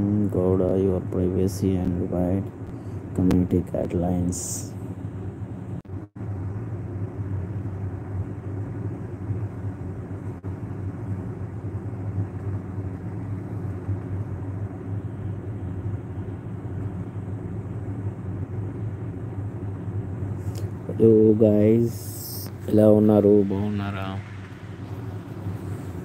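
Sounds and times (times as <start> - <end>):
low rumble of background noise: 0.0 - 26.0.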